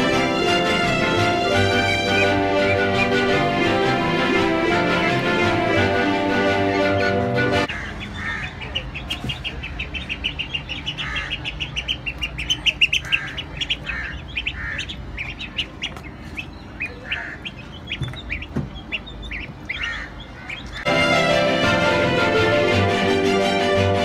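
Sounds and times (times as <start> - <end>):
ducklings peeping: 0.0 - 20.9.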